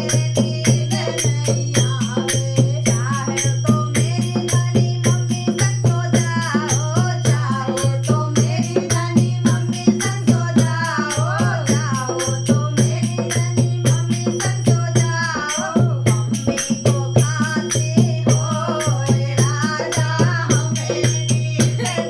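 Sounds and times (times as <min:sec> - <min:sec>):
jingling rattle percussion: 0:00.0 - 0:22.0
woman singing folk song: 0:00.0 - 0:22.0.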